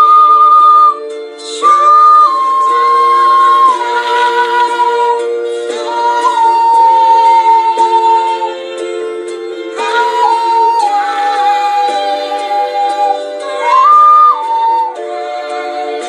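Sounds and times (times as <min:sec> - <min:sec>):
ocarina playing slow melody: 0:00.0 - 0:16.0.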